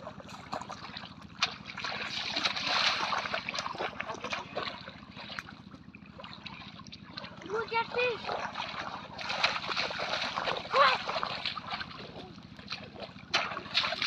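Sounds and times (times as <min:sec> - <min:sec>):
feet wading through water: 0:00.0 - 0:14.0
sharp short splashes: 0:00.2 - 0:14.0.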